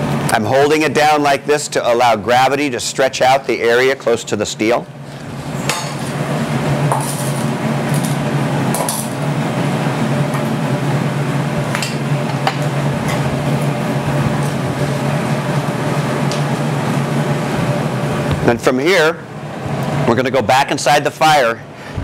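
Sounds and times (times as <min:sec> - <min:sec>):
furnace burners roaring: 0:00.0 - 0:22.0.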